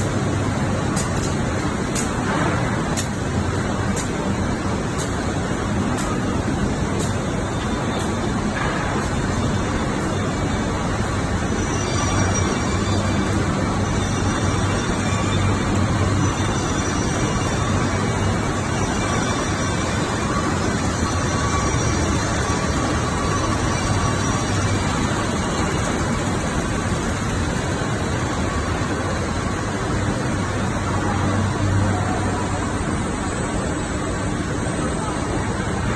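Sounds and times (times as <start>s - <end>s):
steady machine noise: 0.0s - 35.9s.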